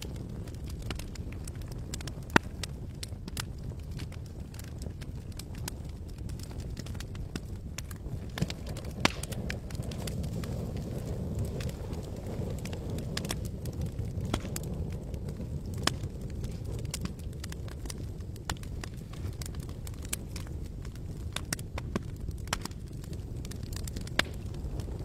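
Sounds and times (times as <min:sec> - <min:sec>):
steady low fire rumble: 0:00.0 - 0:25.0
wood crackling and popping in fire: 0:00.0 - 0:25.0.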